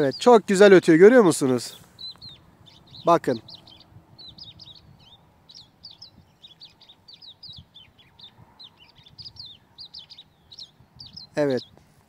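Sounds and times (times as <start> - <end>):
songbird chirping and whistling: 1.4 - 11.8.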